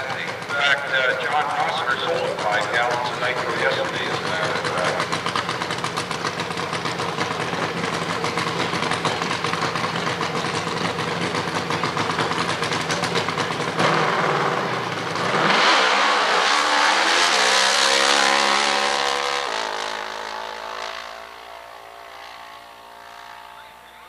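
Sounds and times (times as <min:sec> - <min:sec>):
drag motorcycle engine revving: 0:00.0 - 0:24.0.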